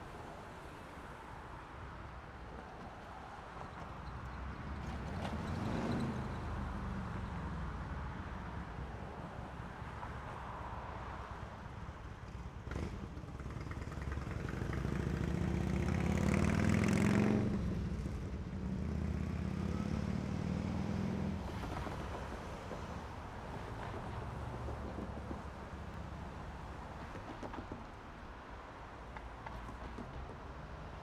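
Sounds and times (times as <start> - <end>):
street background noise: 0.0 - 31.0.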